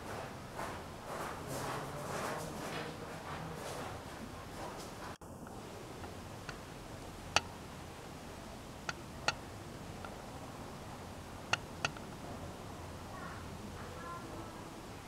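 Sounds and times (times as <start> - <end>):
low background hiss: 1.8 - 15.0.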